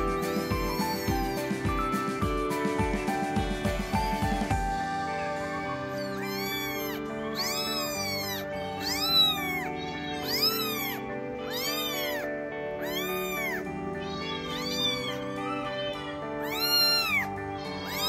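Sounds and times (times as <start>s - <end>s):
kitten meowing: 0.0s - 2.3s, 3.7s - 18.0s.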